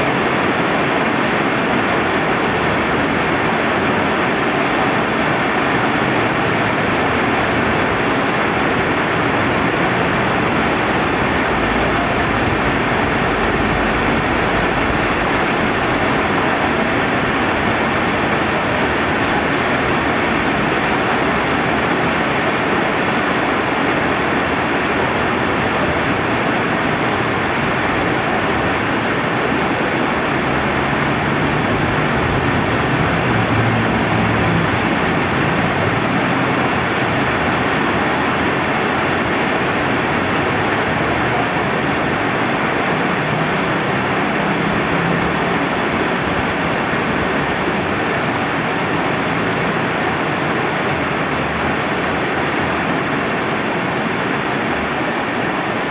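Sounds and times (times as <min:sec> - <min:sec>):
river flowing: 0:00.0 - 0:55.9
steady rain: 0:00.0 - 0:55.9.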